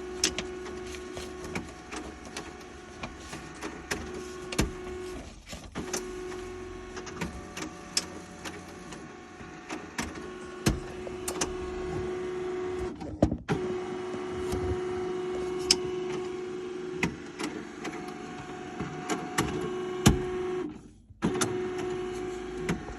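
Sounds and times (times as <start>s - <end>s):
printer motor humming: 0.0s - 22.9s.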